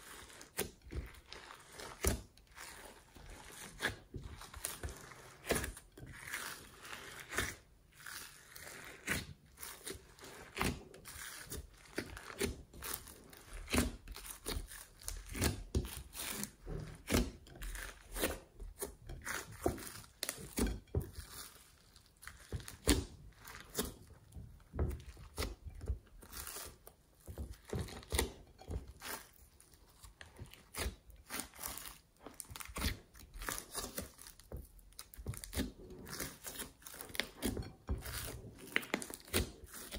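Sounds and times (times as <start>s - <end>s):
slime squishing with sticky pops: 0.0s - 39.9s.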